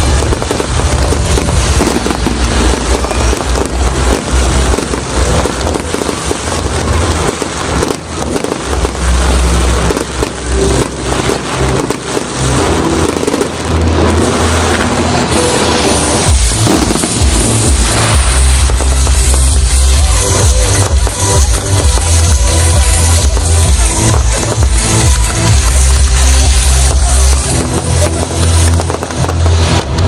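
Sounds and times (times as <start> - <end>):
fireworks booms: 0.0 - 30.0
fireworks crackling: 0.0 - 30.0.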